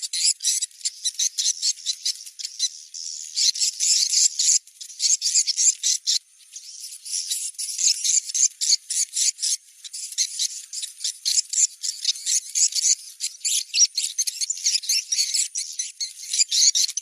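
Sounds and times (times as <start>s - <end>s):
rapid high bird chirping: 0.0s - 17.0s.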